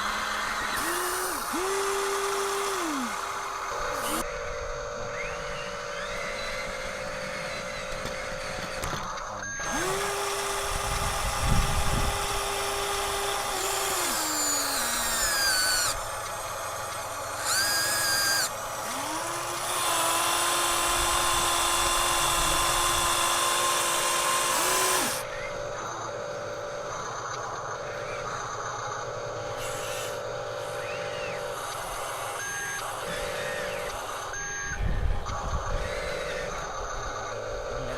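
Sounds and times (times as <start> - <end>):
small electric motors whining: 0.0 - 37.9.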